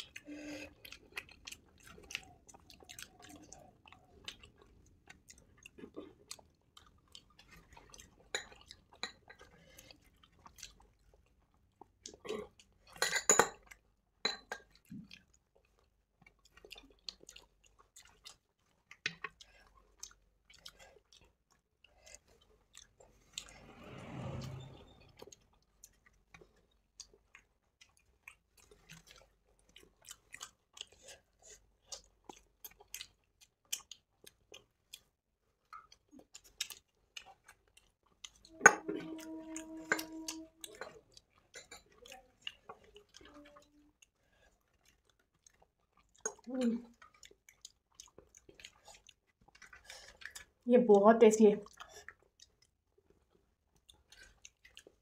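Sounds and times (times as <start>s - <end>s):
soft chewing: 0.0s - 50.7s, 51.6s - 55.0s.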